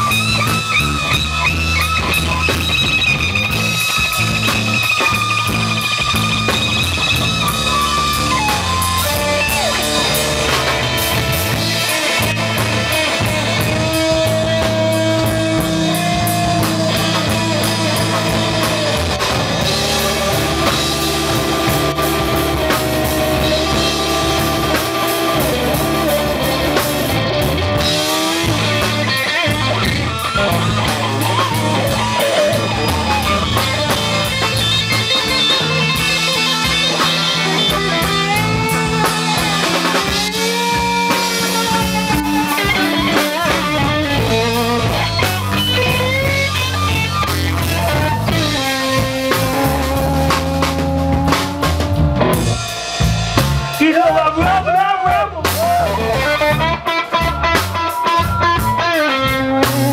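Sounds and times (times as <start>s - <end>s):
drum kit with cymbals: 0.0s - 59.9s
electric bass: 0.0s - 59.9s
electric guitar lead: 0.0s - 59.9s.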